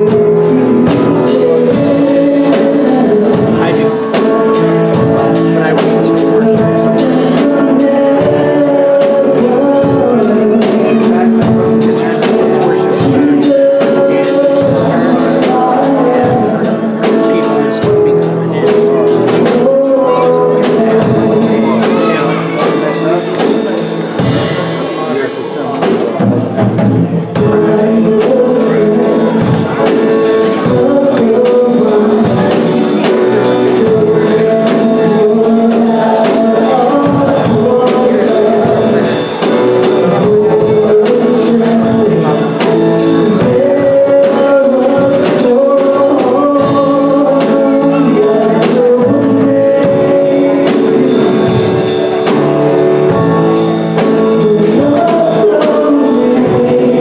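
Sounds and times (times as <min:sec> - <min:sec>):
drum kit beat: 0:00.0 - 0:57.0
person singing: 0:00.0 - 0:57.0
piano: 0:00.0 - 0:57.0.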